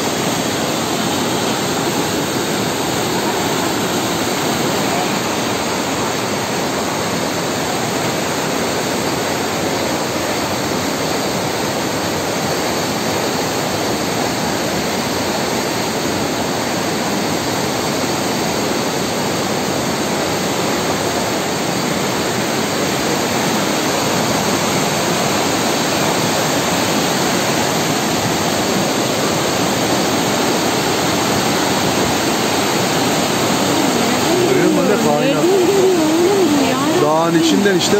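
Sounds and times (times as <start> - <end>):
river rushing over rocks: 0.0 - 37.9.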